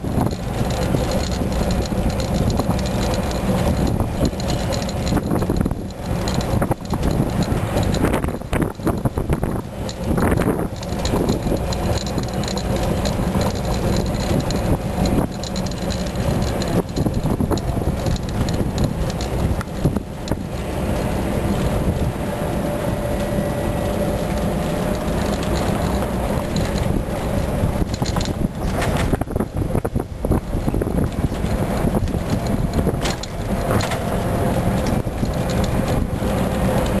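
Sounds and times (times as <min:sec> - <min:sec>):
cart rumbling on paved road: 0:00.0 - 0:37.0
wind buffeting microphone: 0:00.0 - 0:37.0.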